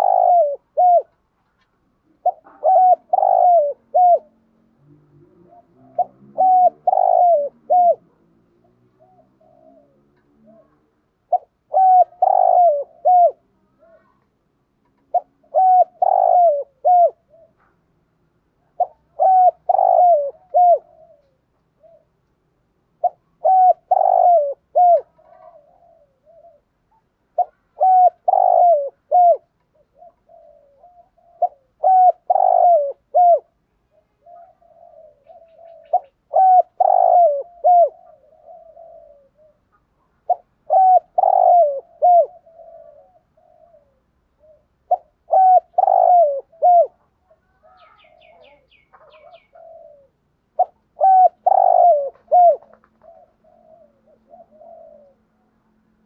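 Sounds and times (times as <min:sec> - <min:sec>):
dove cooing: 0:00.0 - 0:01.3, 0:01.9 - 0:14.2, 0:15.0 - 0:17.9, 0:18.6 - 0:22.2, 0:22.9 - 0:55.9.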